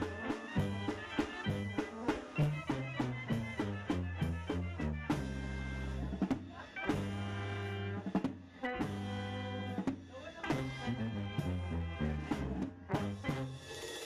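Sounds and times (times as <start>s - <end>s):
brass band dance music: 0.0s - 14.0s.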